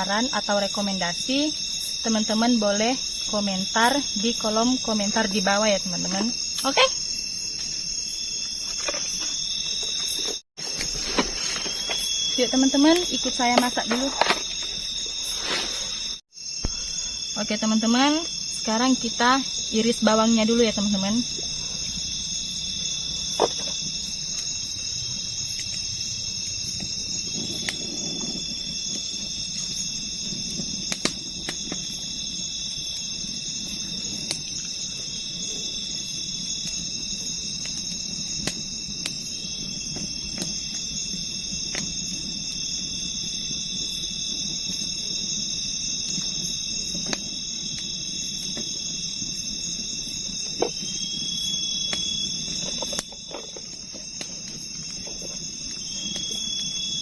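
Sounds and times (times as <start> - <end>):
insects shrilling: 0.0 - 57.0.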